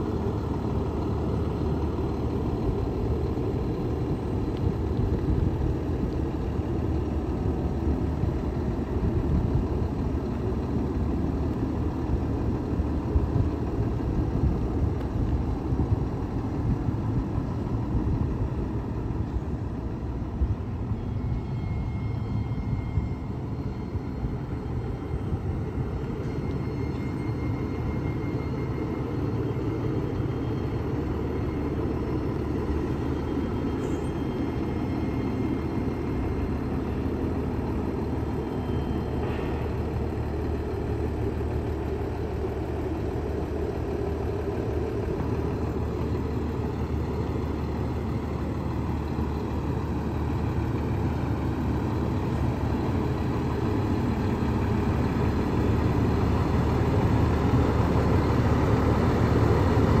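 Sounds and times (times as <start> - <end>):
fire truck diesel engine rumbling: 0.0 - 60.0.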